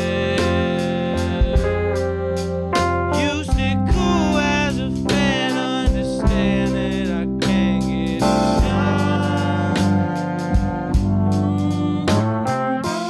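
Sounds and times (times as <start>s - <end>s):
bass guitar: 0.0s - 13.0s
drums: 0.0s - 13.0s.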